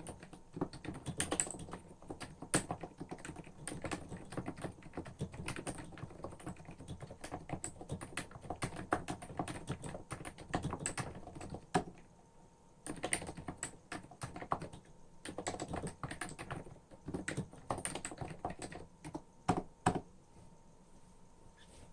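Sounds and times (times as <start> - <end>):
keyboard typing: 0.0 - 12.1, 12.8 - 20.1.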